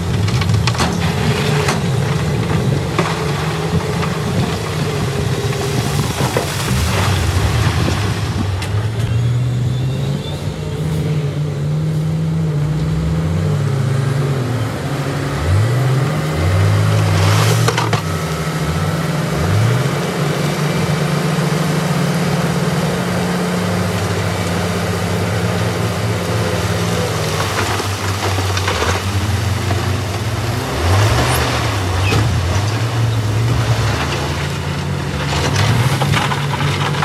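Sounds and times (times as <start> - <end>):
heavy diesel engines running: 0.0 - 37.0
truck engine revving: 0.0 - 37.0.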